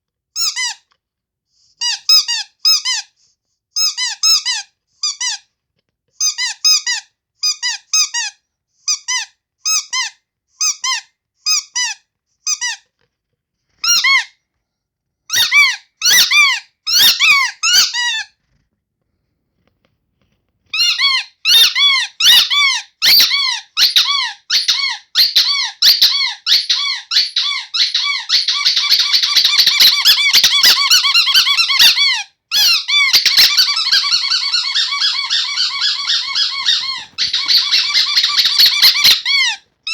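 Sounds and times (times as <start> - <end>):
rubber squeaky toy squeaking: 0.4 - 0.9, 1.8 - 3.2, 3.8 - 5.6, 6.2 - 13.0, 13.7 - 14.4, 15.3 - 18.6, 20.7 - 39.9.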